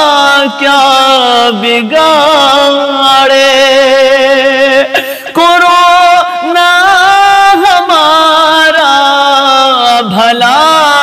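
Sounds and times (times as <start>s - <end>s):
man singing ornamented notes: 0.0s - 11.0s.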